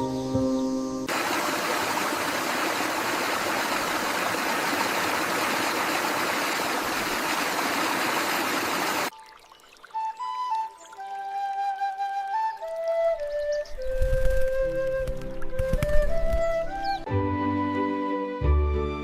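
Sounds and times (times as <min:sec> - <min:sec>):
rushing water: 0:01.1 - 0:17.0.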